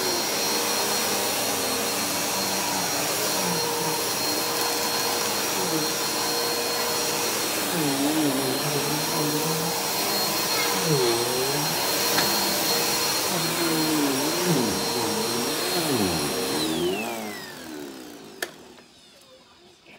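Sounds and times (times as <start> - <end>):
vacuum cleaner running: 0.0 - 19.3.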